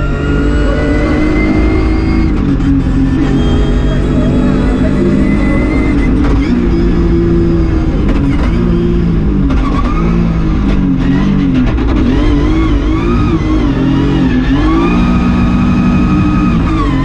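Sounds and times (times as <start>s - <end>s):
rally car engine driven hard: 0.0s - 17.0s.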